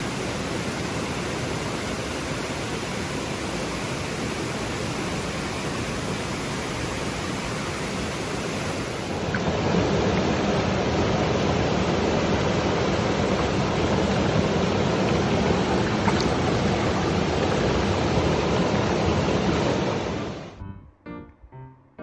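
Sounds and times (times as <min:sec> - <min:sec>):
stream water rushing: 0:00.0 - 0:20.6.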